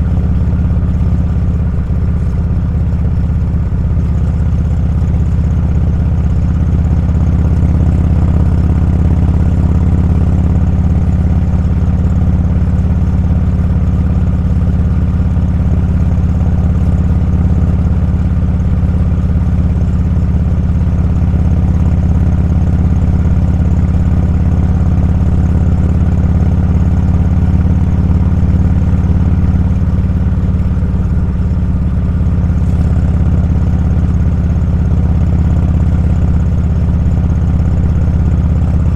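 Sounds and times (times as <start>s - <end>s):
motorcycle engine drone: 0.0s - 38.9s
road and wind rumble: 0.0s - 38.9s.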